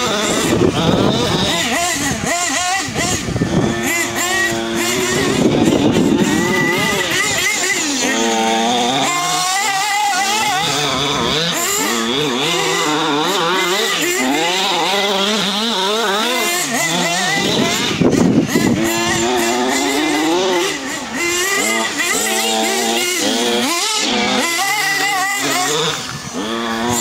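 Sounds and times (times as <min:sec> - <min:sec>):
rc buggy engine revving: 0:00.0 - 0:27.0.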